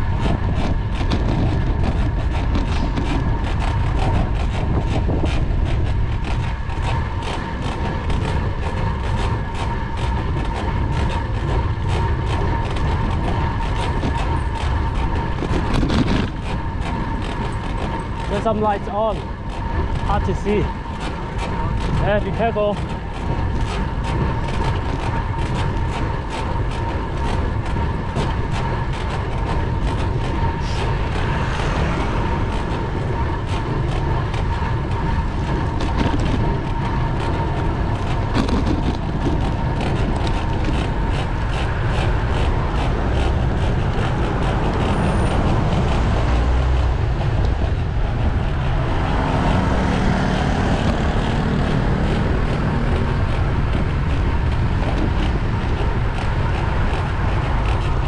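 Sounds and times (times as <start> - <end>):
bicycle tyres on road: 0.0 - 58.0
wind on microphone: 0.0 - 58.0.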